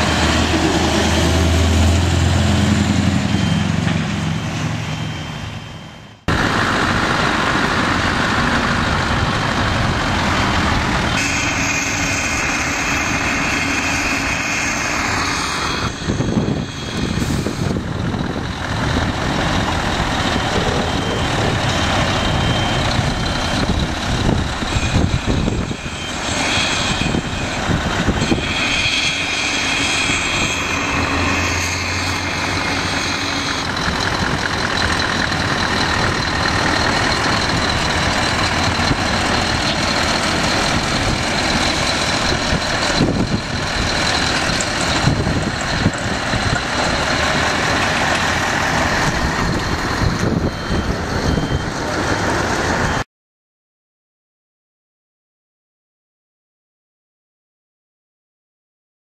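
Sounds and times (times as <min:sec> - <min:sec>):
steady high whine: 0:00.0 - 0:53.0
truck diesel engines running: 0:00.0 - 0:53.0.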